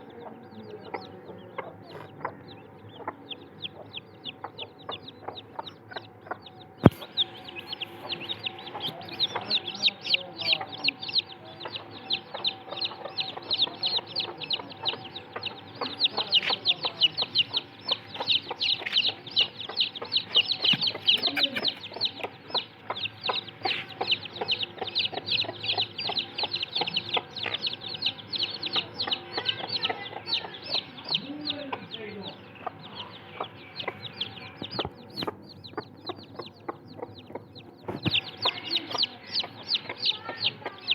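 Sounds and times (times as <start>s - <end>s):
chickens chirping and clucking: 0.0s - 40.9s.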